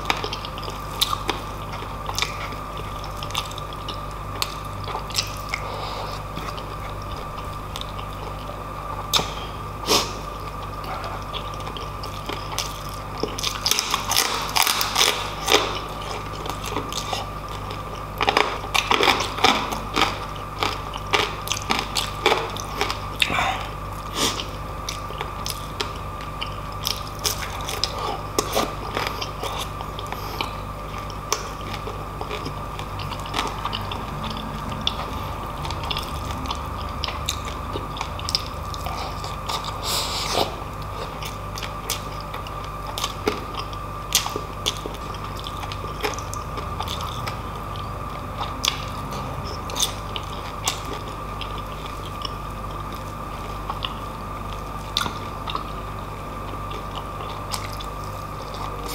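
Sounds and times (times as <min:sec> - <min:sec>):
wet chewing: 0:00.0 - 0:55.8
crackly crunches: 0:00.0 - 0:58.9.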